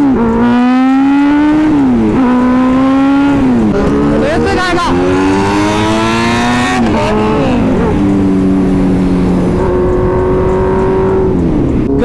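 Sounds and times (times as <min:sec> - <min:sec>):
motorcycle engine pulling hard: 0:00.0 - 0:12.0.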